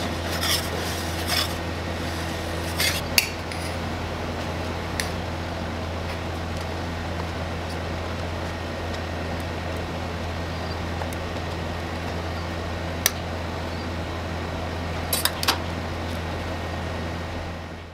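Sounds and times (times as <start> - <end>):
refrigeration unit humming: 0.0 - 17.9.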